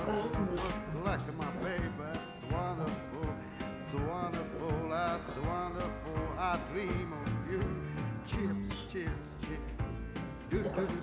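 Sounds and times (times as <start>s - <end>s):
country-style background music: 0.0s - 11.0s.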